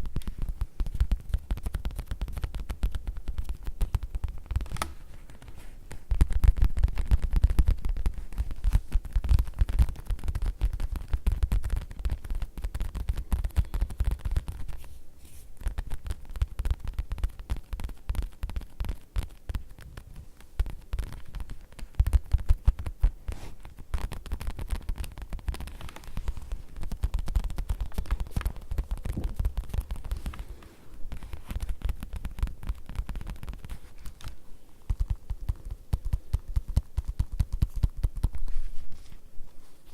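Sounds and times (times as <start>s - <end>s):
fingertips tapping on leather: 0.0s - 4.9s, 5.9s - 14.8s, 15.6s - 38.5s.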